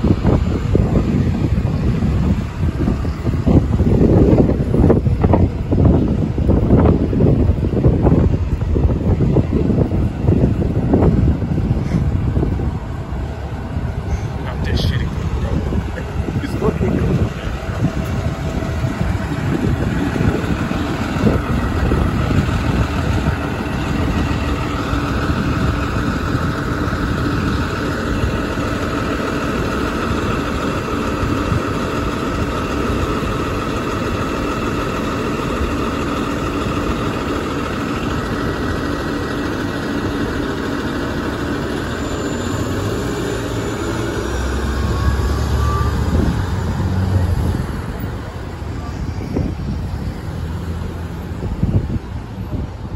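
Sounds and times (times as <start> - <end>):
bus engine running: 0.0 - 52.9
high whine: 0.0 - 52.9
low rumble: 0.0 - 52.9.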